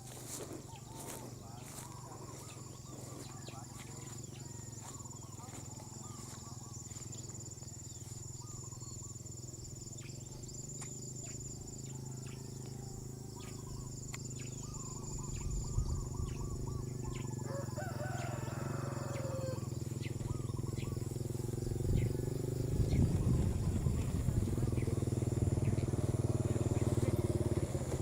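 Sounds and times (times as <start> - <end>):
birds chirping: 0.0 - 28.0
high insect trill: 0.0 - 28.0.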